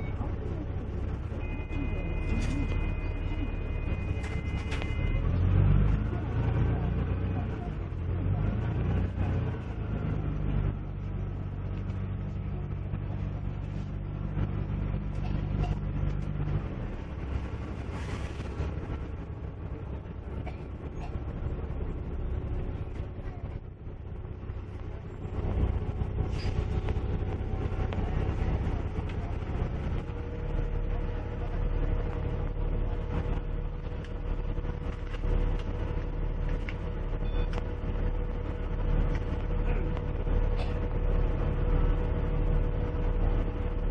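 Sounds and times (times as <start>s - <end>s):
bus diesel engine running: 0.0s - 43.9s.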